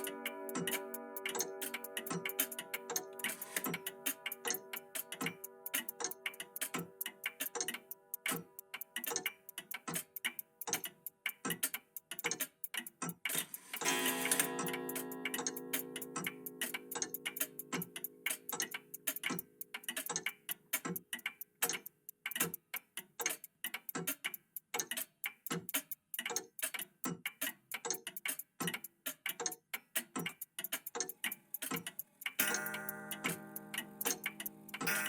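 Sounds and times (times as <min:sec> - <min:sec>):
clocks ticking: 0:00.0 - 0:35.0.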